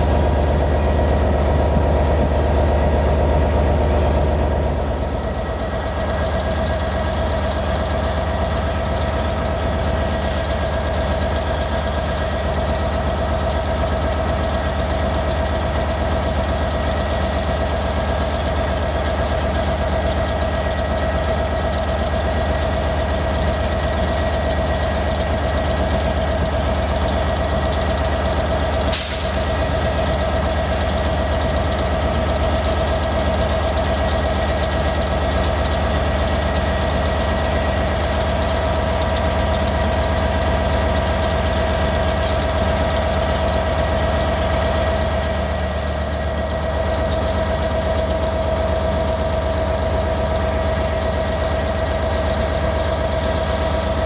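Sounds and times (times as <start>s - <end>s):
diesel train engine idling: 0.0s - 54.0s.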